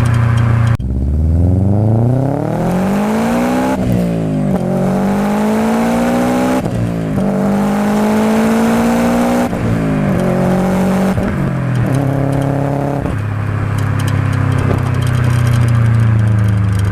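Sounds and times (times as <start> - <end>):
car engine accelerating: 0.0 - 16.9.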